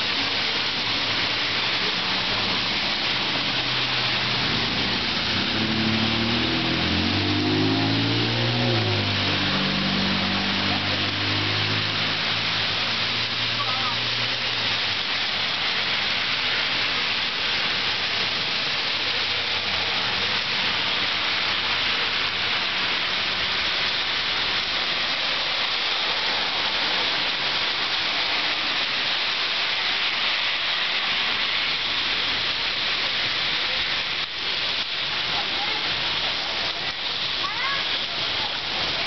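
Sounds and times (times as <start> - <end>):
heavy rain on pavement: 0.0 - 39.0.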